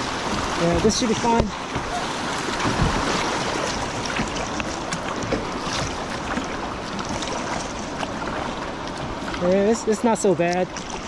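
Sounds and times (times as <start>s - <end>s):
river water rushing over rapids: 0.0s - 11.0s
water splashes and drips: 0.0s - 11.0s.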